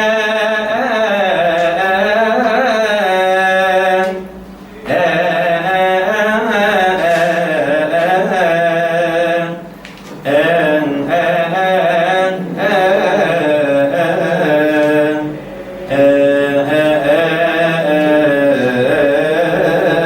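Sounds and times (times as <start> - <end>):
man chanting a hymn: 0.0 - 20.0.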